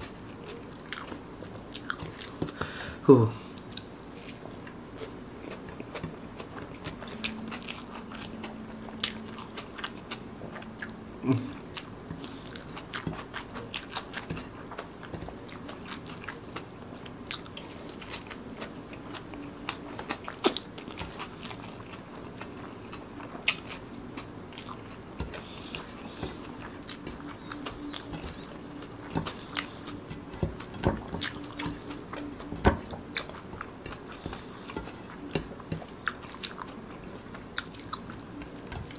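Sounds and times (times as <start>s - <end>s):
person chewing with mouth clicks: 0.0s - 38.9s.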